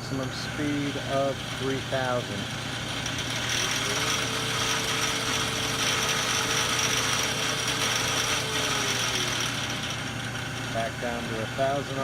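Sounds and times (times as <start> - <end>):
lathe drive whining with gear noise: 0.0 - 12.0.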